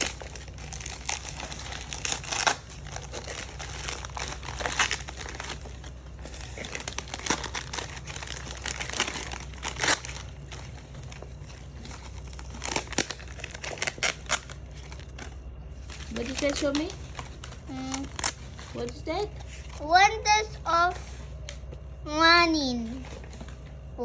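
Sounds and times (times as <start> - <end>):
wrapping paper crinkling and tearing: 0.0 - 19.8.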